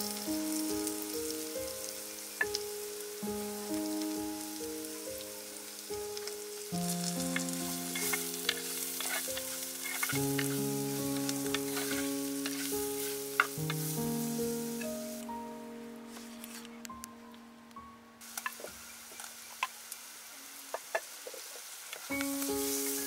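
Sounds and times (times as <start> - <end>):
onions sizzling in a pot: 0.0 - 16.9, 18.2 - 23.0
soft background music: 0.0 - 19.1, 22.1 - 23.0.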